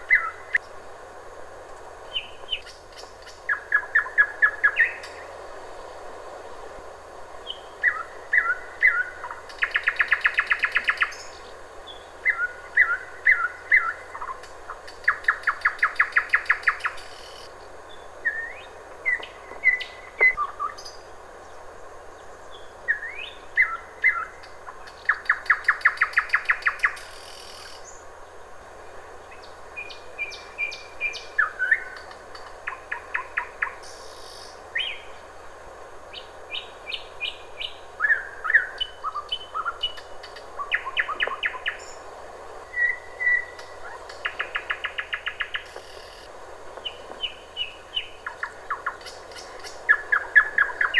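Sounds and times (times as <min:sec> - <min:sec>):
nightingale singing: 0:00.0 - 0:00.7, 0:02.1 - 0:05.3, 0:07.4 - 0:21.6, 0:22.3 - 0:28.0, 0:29.3 - 0:35.3, 0:36.1 - 0:50.9.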